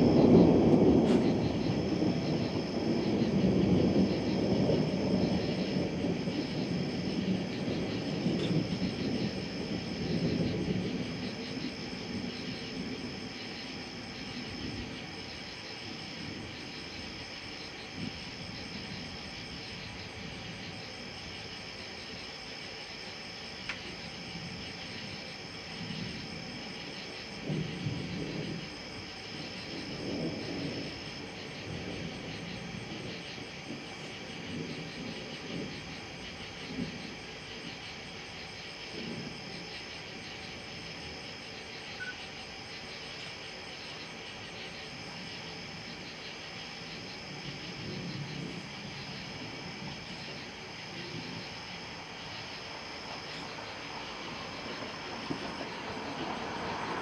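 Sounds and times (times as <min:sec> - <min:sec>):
night insects trilling: 0:00.0 - 0:57.0
thunder rumbling: 0:00.0 - 0:57.0.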